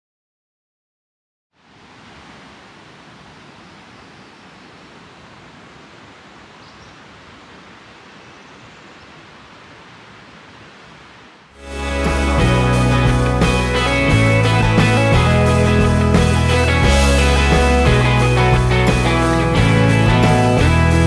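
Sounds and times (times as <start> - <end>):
creek water rushing: 1.6 - 21.0.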